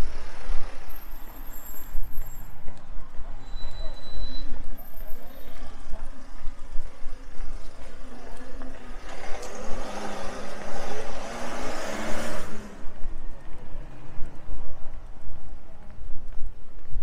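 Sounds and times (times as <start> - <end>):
low street rumble: 0.0 - 17.0
vehicle passing on street: 0.0 - 17.0.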